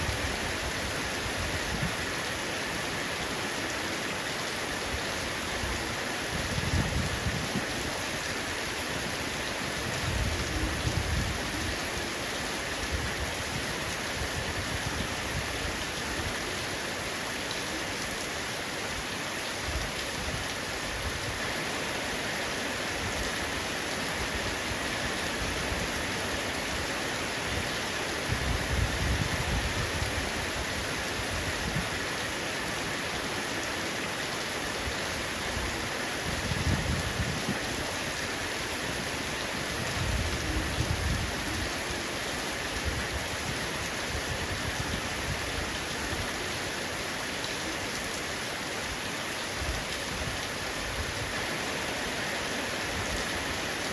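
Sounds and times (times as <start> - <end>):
heavy rain on a roof: 0.0 - 53.9.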